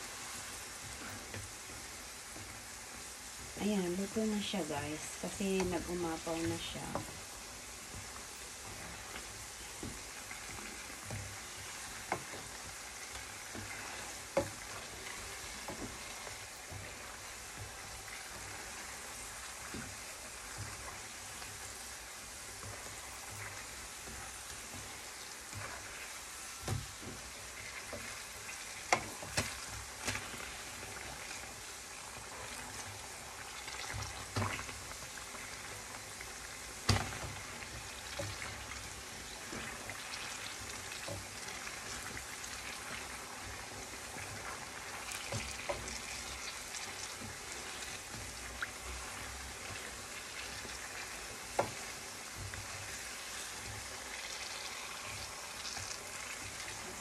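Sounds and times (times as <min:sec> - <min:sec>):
hot oil sizzling: 0:00.0 - 0:57.0.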